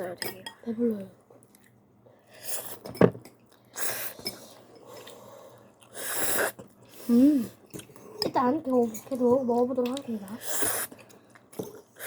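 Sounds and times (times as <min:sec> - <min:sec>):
close eating noises: 0:00.0 - 0:12.0.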